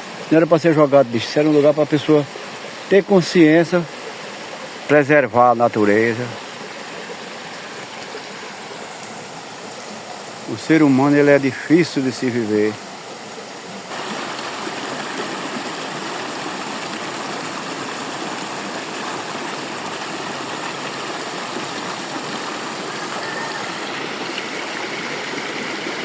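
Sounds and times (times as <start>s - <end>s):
waterfall rushing water: 0.0s - 26.0s.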